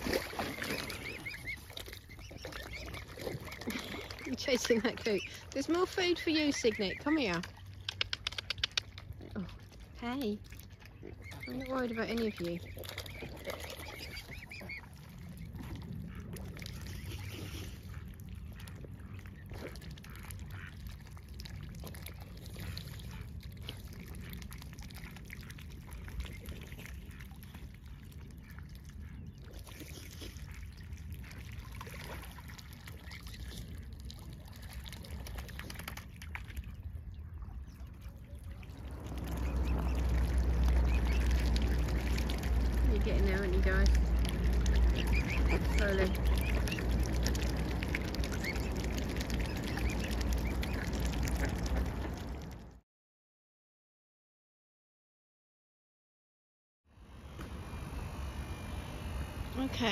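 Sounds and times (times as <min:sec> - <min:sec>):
steady low rumble: 0:00.0 - 0:29.6, 0:30.4 - 0:52.8
light water splashing: 0:00.0 - 0:52.8
water dribbling: 0:00.0 - 0:52.8.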